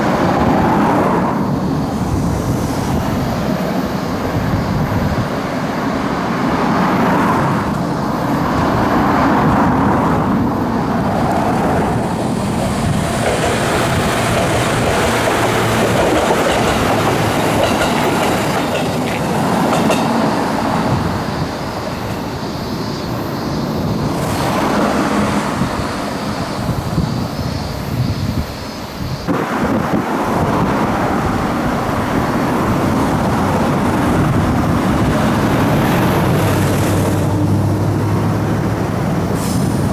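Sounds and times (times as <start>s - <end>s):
electric train rumbling on track: 0.0s - 39.9s.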